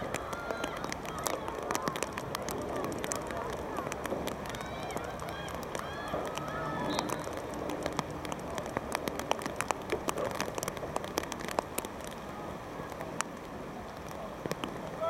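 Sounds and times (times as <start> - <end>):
rain hiss: 0.0 - 15.0
raindrops ticking: 0.0 - 15.0.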